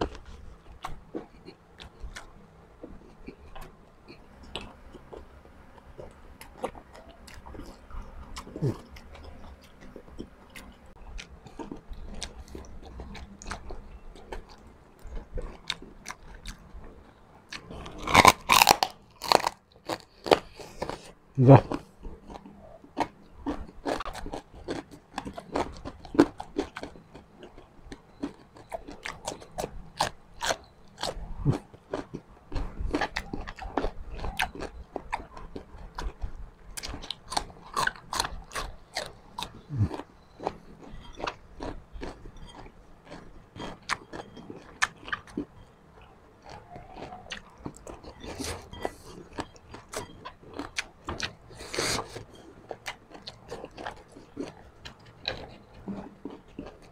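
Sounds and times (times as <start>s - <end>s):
crunchy chewing: 0.0s - 56.9s.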